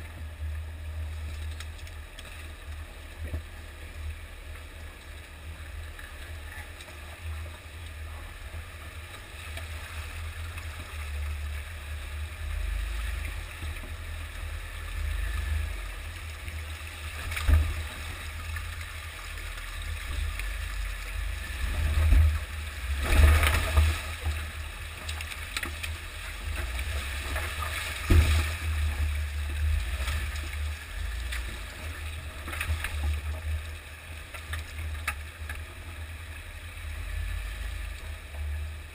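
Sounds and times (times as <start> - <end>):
vehicle engine low rumble: 0.0 - 38.9
water splashing around tires: 1.0 - 38.9.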